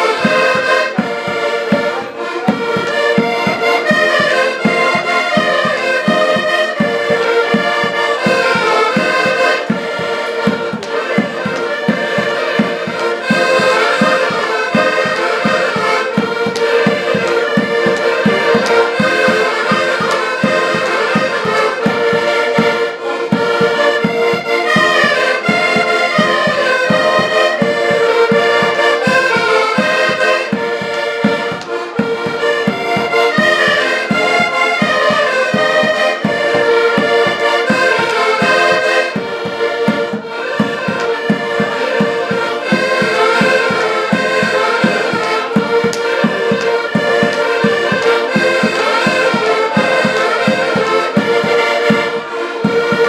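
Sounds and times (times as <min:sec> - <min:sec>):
accordions playing folk tune: 0:00.0 - 0:53.0.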